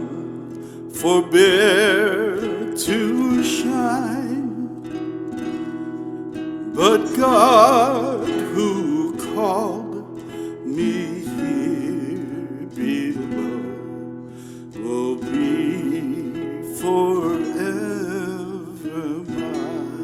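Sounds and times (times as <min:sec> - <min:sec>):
person singing a hymn: 0:00.0 - 0:04.8, 0:06.6 - 0:14.1, 0:14.7 - 0:20.0
acoustic guitar: 0:00.0 - 0:20.0.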